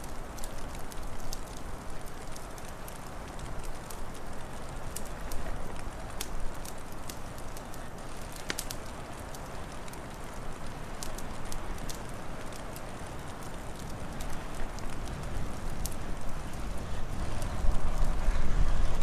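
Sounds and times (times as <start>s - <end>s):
wood fire crackling: 0.0s - 19.0s
low wind rumble: 0.1s - 19.0s.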